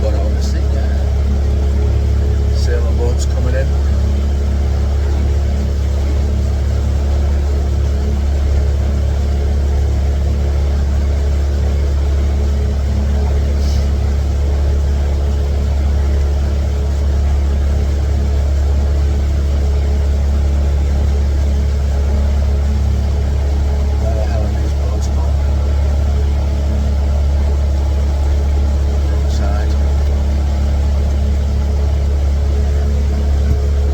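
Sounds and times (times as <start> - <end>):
boat motor droning: 0.0 - 33.9.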